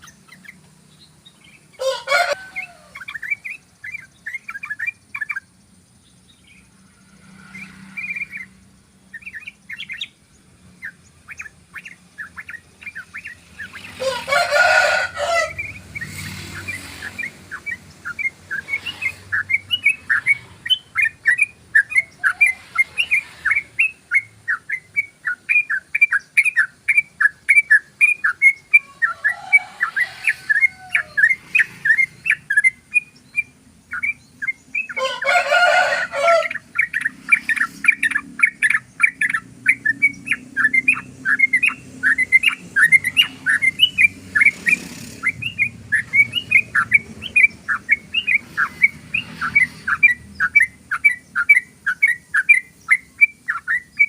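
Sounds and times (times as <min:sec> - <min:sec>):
bird chattering song: 0:00.0 - 0:54.0
harsh bird call: 0:01.4 - 0:05.4, 0:10.8 - 0:54.0.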